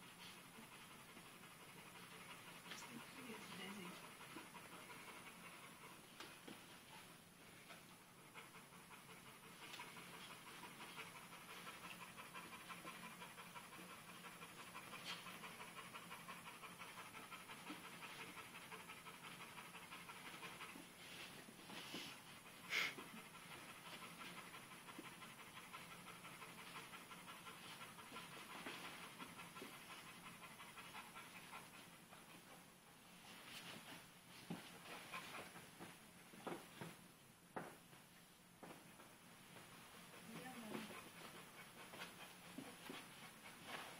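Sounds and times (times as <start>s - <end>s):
puppy panting: 0.0s - 43.9s.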